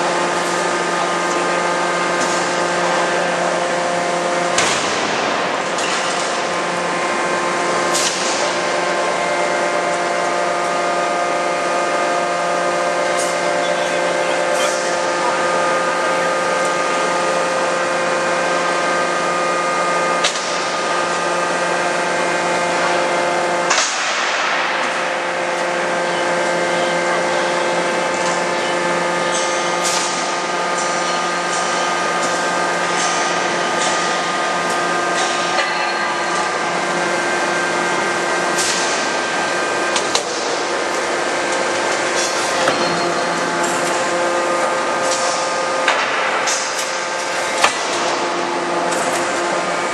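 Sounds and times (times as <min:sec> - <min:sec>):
hydraulic system hum: 0:00.0 - 0:49.9.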